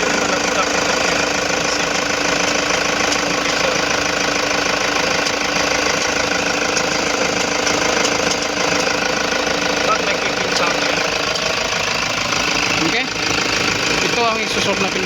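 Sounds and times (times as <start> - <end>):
van engine running: 0.0 - 15.0.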